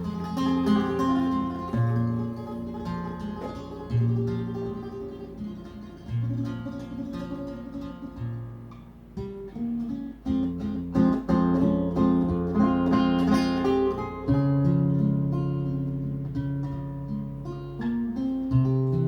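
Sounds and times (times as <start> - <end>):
acoustic guitar ballad: 0.0 - 19.0.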